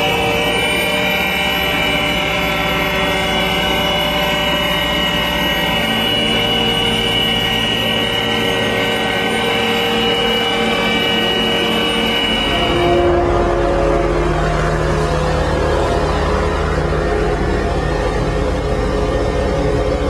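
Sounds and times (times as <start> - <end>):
diesel engine drone: 0.0 - 20.0
steady high whine: 0.0 - 20.0.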